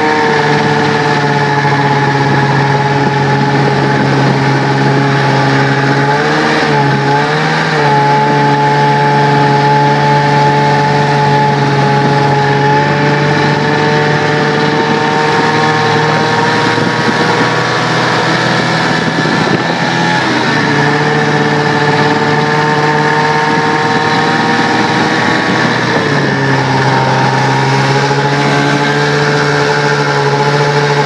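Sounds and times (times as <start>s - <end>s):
snowmobile engine running: 0.0s - 31.0s.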